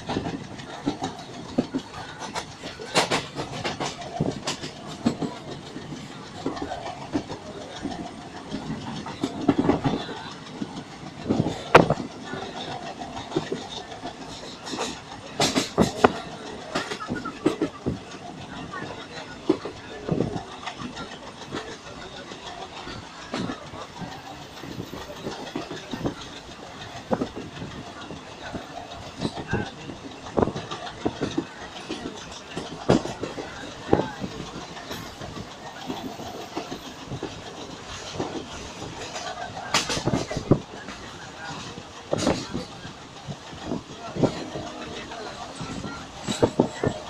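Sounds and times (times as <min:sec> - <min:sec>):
train rumbling on track: 0:00.0 - 0:47.0
train wheels knocking and clattering: 0:00.0 - 0:47.0.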